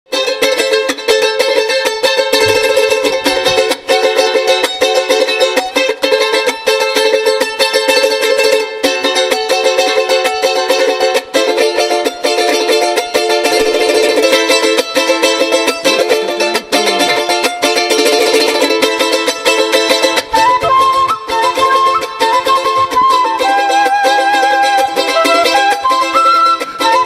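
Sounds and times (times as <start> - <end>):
charango strummed briskly: 0.1 - 27.0.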